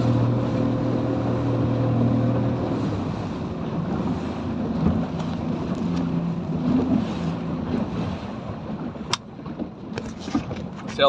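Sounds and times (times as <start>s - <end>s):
speedboat engine running slowly: 0.0s - 11.0s
water noise: 0.0s - 11.0s
wind buffeting microphone: 0.0s - 11.0s.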